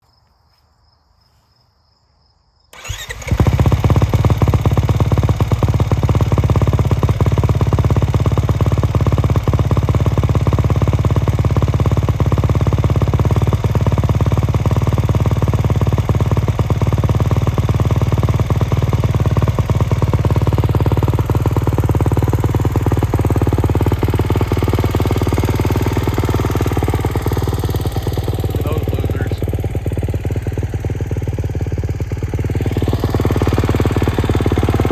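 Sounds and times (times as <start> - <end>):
motorcycle engine starting and idling: 2.7 - 34.9.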